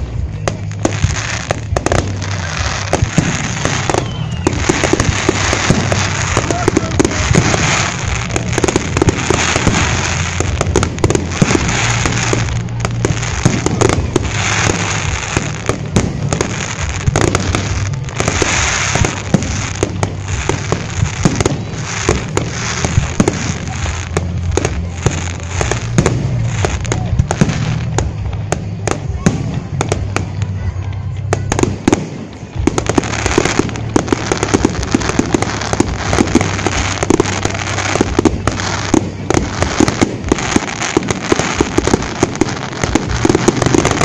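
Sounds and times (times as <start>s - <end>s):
fireworks bangs: 0.0s - 44.0s
fireworks crackling: 0.0s - 44.0s.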